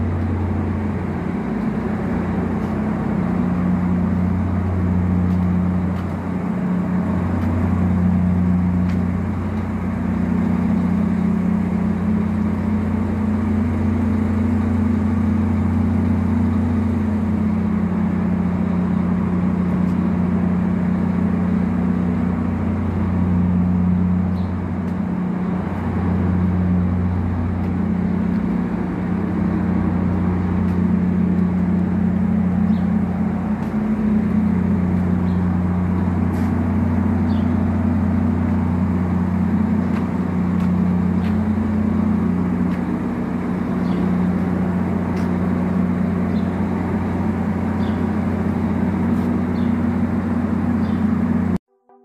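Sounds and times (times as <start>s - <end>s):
heavy machinery droning: 0.0s - 51.6s.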